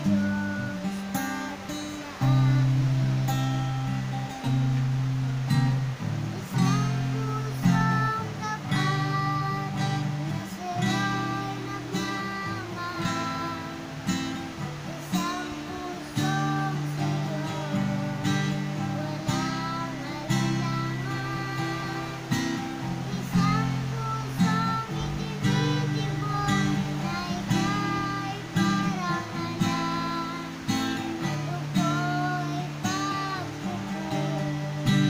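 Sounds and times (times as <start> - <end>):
acoustic guitar strumming: 0.0 - 35.0
girl singing: 0.0 - 35.0.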